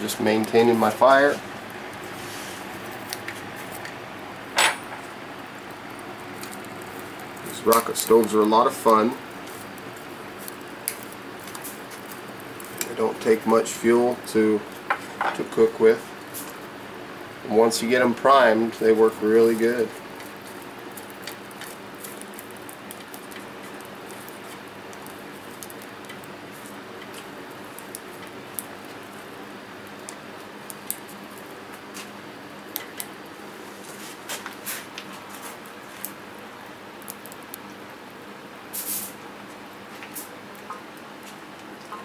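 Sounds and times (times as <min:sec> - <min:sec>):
wood fire hissing and crackling: 0:00.0 - 0:42.0.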